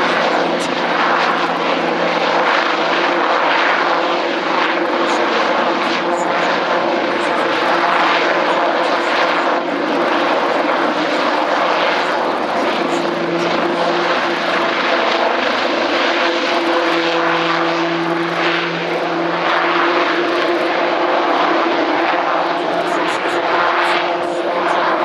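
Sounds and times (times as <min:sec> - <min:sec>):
helicopter flying past: 0:00.0 - 0:25.0.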